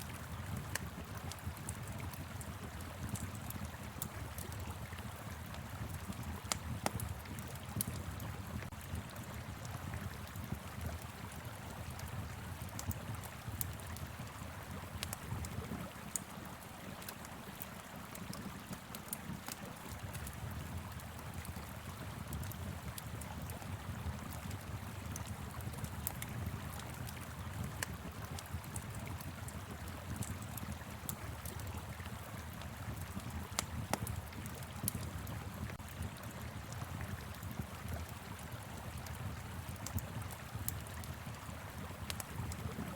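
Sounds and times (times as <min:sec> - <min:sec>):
wood fire crackling and popping: 0:00.1 - 0:42.9.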